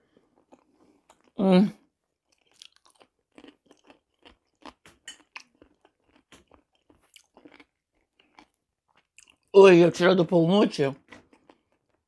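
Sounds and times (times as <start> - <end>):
chewing pickled cucumber: 0.1 - 9.6, 10.9 - 12.0.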